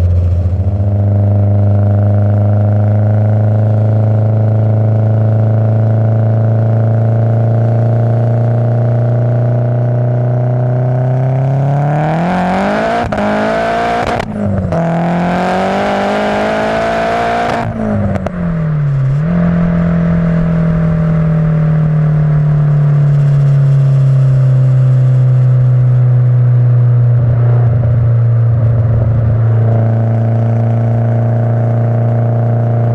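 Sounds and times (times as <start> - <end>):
car engine accelerating and cruising: 0.0 - 32.9.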